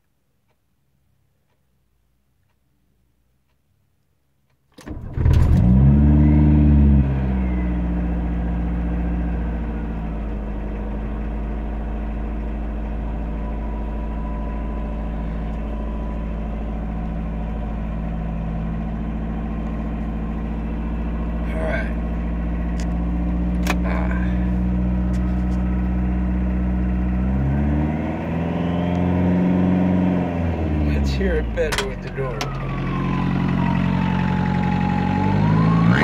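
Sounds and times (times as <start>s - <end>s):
diesel engine starting and idling: 4.8s - 36.0s.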